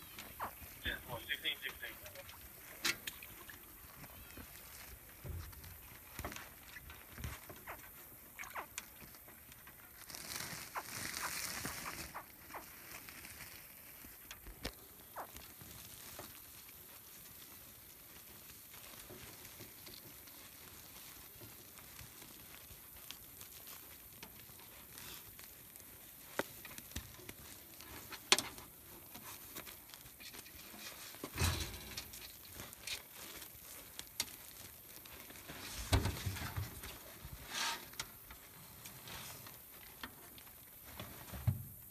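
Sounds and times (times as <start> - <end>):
rope scraping: 0.0 - 41.4
rustling: 0.0 - 41.9.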